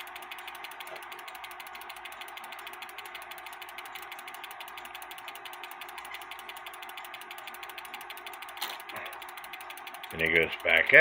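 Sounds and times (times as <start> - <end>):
cuckoo clock movement clicking: 0.0 - 11.0.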